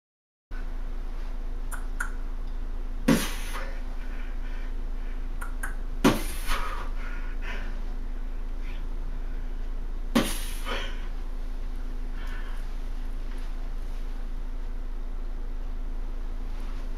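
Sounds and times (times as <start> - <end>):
low electrical hum: 0.5 - 16.9.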